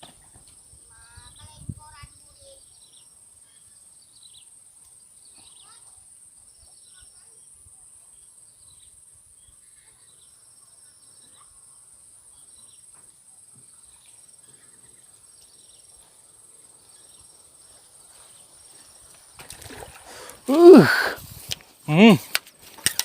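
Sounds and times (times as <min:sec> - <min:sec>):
insect chirps: 0:00.1 - 0:23.0.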